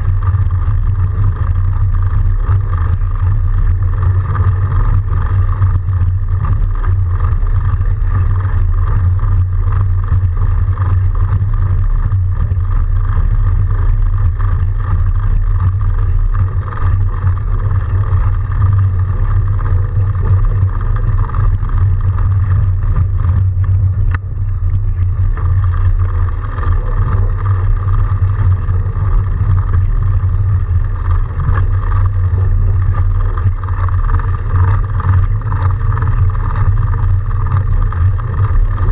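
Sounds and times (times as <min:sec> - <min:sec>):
bike rolling through snow: 0:00.0 - 0:38.9.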